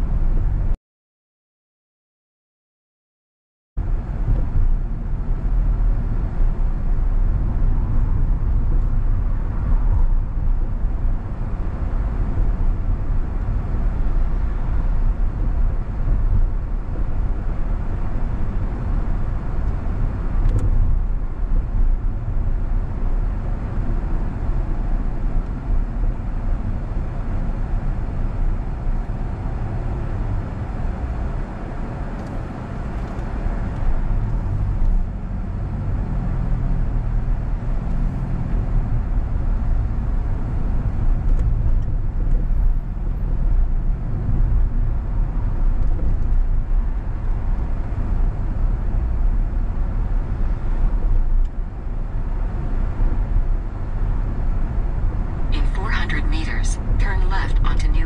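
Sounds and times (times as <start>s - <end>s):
car engine and tyre rumble: 0.0s - 0.8s, 3.8s - 58.0s.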